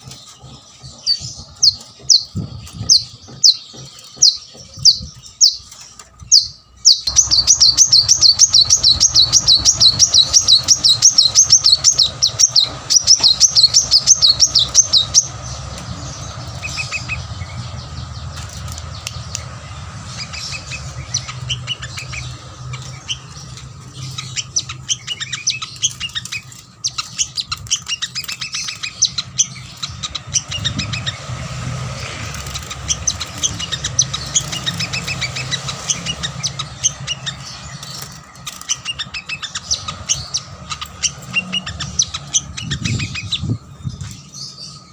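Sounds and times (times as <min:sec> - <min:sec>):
bird chirping: 0:00.0 - 0:44.9
bird singing high trills: 0:00.0 - 0:44.9.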